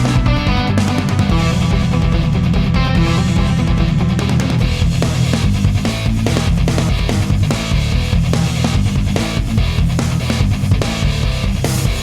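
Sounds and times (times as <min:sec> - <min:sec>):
heavy rock music: 0:00.0 - 0:12.0.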